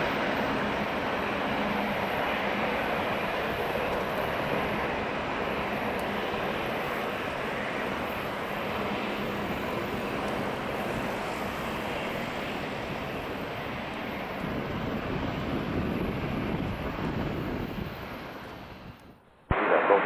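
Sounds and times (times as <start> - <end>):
jet engines rumbling and hissing: 0.0 - 20.0.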